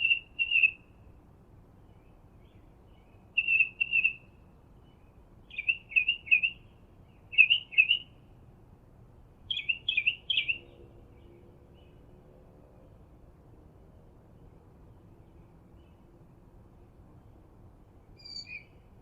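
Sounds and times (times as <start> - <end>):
songbird chirping: 0.0 - 8.4, 9.4 - 13.2, 13.9 - 19.0.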